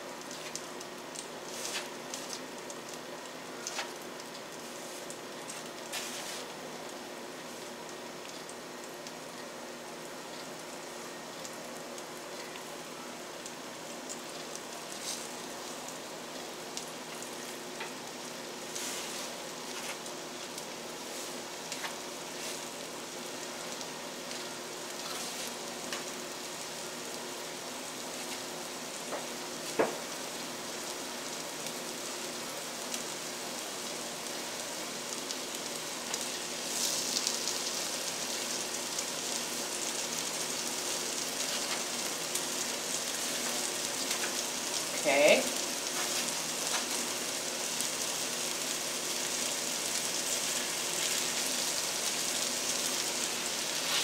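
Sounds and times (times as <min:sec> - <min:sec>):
chicken sizzling in a skillet: 0:00.0 - 0:54.0.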